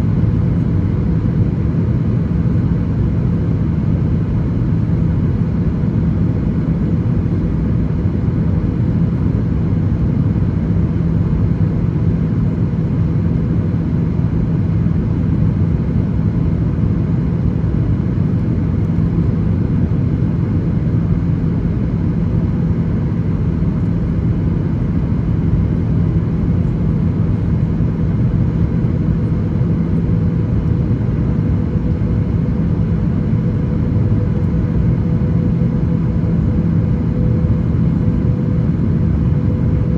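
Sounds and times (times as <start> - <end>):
airplane cabin engine drone: 0.0 - 39.9
low steady hum: 0.0 - 39.9.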